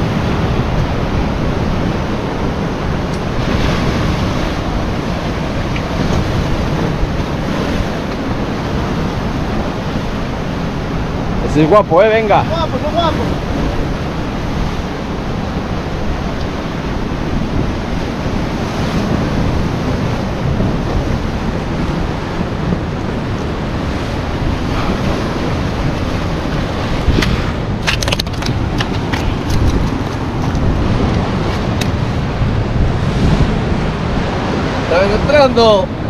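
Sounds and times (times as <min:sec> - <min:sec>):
waves breaking over rocks: 0:00.0 - 0:36.0
wind buffeting microphone: 0:00.0 - 0:36.0.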